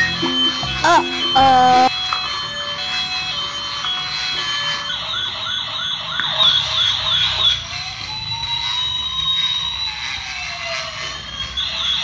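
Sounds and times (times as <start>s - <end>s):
toy police siren: 0.0s - 12.0s.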